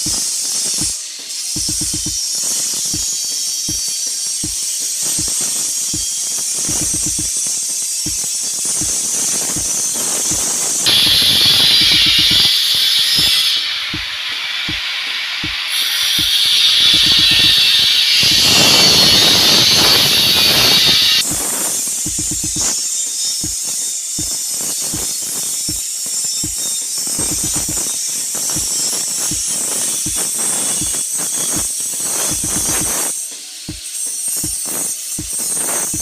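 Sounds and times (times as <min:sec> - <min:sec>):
music with thumping beat: 0:00.0 - 0:14.8, 0:15.4 - 0:36.0
loud high hiss: 0:00.0 - 0:36.0.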